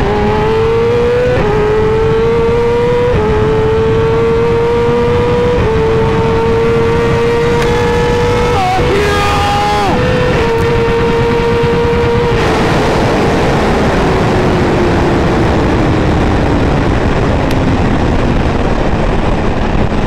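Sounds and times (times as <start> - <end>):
motorcycle engine at high revs: 0.0 - 20.0
wind rush on microphone: 0.0 - 20.0.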